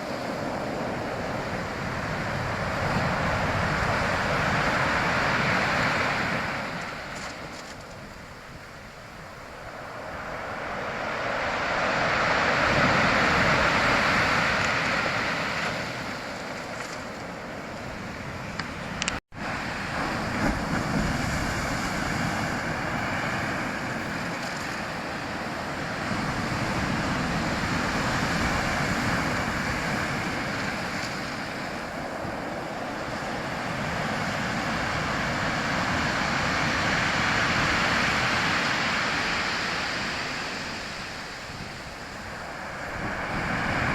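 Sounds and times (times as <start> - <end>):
sea waves surging: 0.0 - 43.9.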